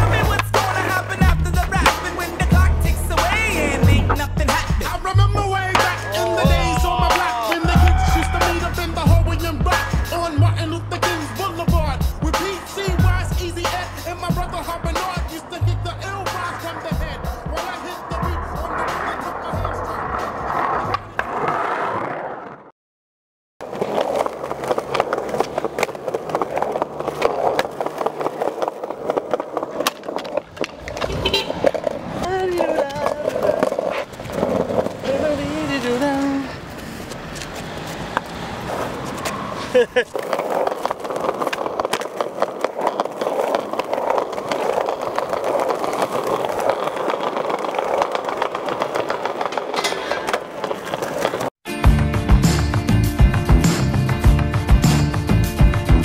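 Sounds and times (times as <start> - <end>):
skateboard wheels rolling on pavement: 0.0 - 22.7, 23.6 - 56.0.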